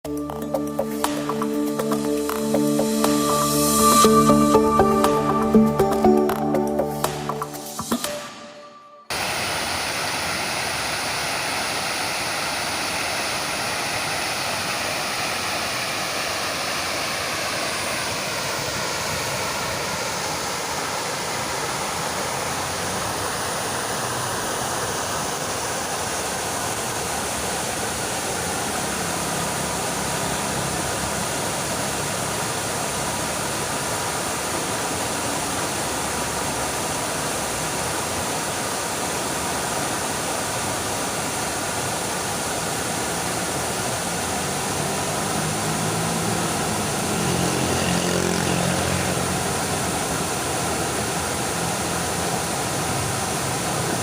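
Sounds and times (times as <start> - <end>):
fountain water splashing: 9.1 - 54.0.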